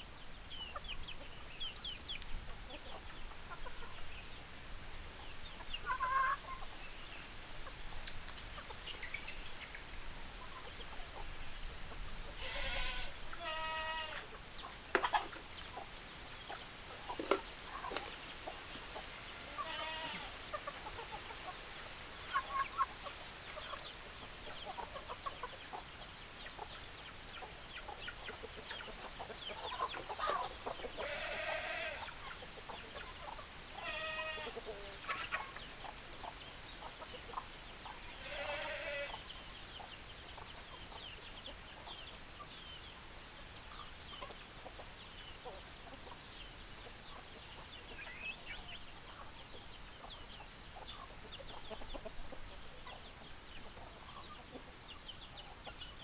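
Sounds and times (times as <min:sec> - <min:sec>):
chickens clucking: 0:00.0 - 0:56.0
drawn-out chicken calls: 0:00.6 - 0:56.0.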